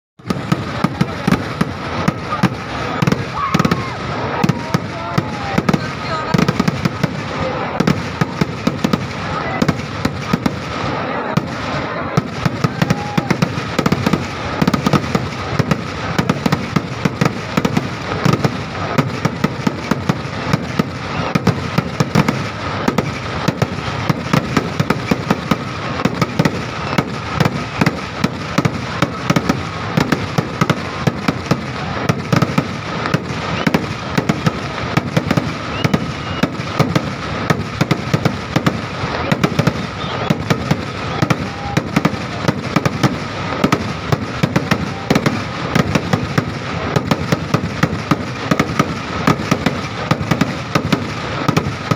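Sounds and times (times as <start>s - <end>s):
firework bangs and crackles: 0.2s - 51.9s.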